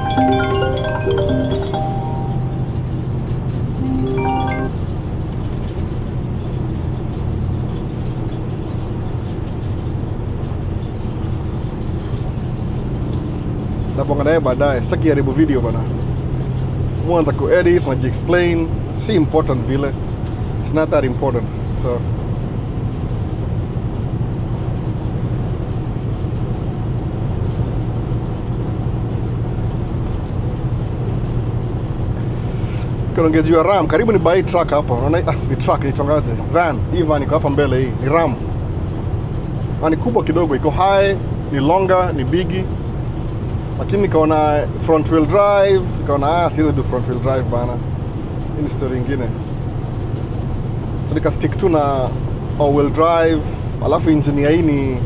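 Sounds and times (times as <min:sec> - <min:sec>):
van engine and road rumble: 0:04.8 - 0:55.0.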